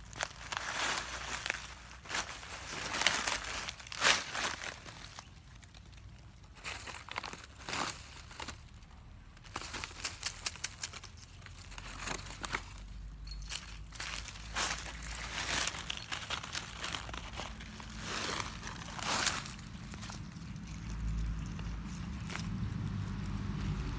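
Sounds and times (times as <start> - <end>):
dry leaves crunching underfoot: 0.0 - 23.9.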